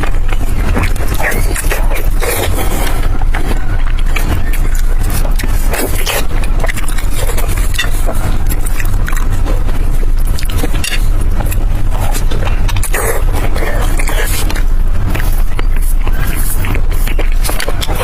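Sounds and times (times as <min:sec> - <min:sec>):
chewing and biting food: 0:00.0 - 0:18.0
steady low rumble: 0:00.0 - 0:18.0.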